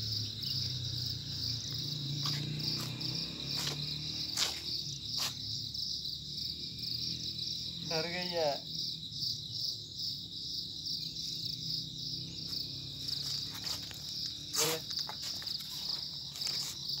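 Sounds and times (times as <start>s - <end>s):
pulsing insect chorus: 0.0s - 17.0s.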